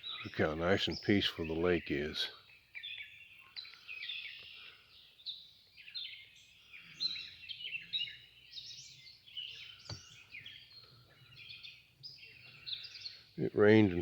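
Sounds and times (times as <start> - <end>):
birds singing and chirping: 0.0 - 14.0.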